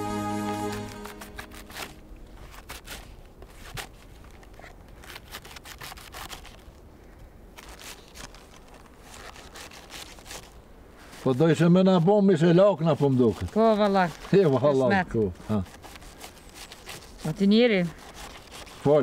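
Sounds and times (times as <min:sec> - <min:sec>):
knife shredding cabbage: 0:01.2 - 0:06.8, 0:07.6 - 0:19.0.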